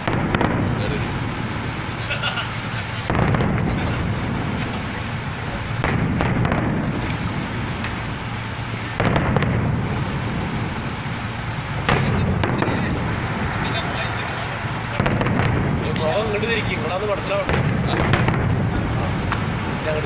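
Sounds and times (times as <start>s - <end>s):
fireworks bangs and cracks: 0.0s - 20.0s
low crackling din: 0.0s - 20.0s.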